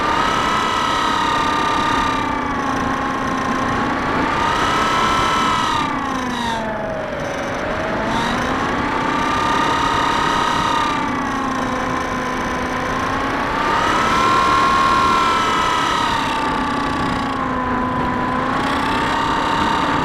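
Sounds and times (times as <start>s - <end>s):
electric motor and propeller whining: 0.0s - 20.0s.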